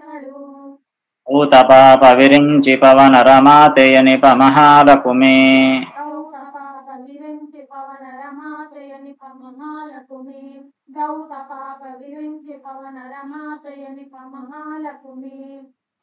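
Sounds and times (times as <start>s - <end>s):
woman chanting melodically: 0.0s - 2.1s, 4.8s - 15.8s.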